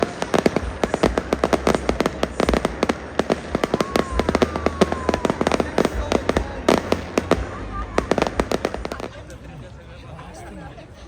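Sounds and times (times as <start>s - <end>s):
falling firework whistle: 0.0s - 8.9s
fireworks bangs and crackles: 0.0s - 9.8s.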